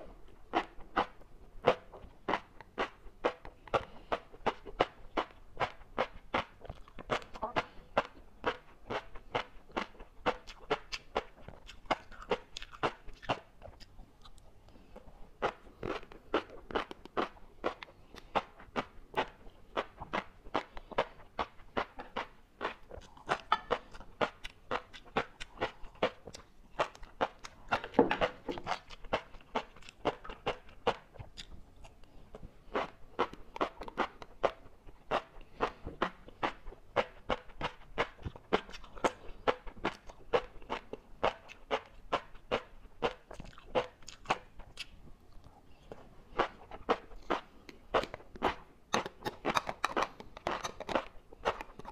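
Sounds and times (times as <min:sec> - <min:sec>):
chewing with crisp pops: 0:00.0 - 0:51.9.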